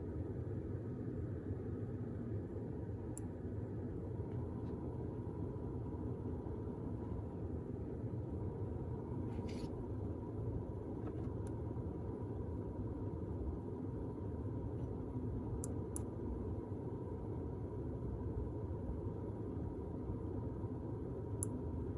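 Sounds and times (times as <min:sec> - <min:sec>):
low computer hum: 0:00.0 - 0:21.9.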